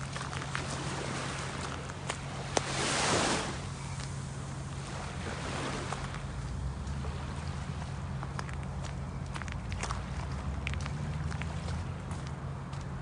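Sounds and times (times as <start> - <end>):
waves washing on shore: 0.0 - 11.8.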